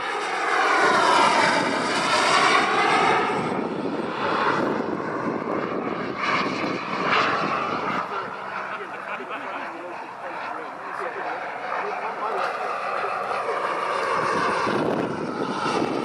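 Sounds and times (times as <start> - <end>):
model jet turbine: 0.0 - 16.0.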